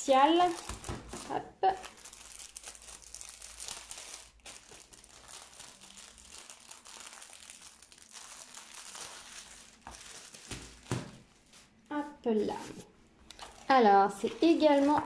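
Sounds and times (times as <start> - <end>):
plastic bag crinkling: 0.0 - 12.6, 13.3 - 15.0.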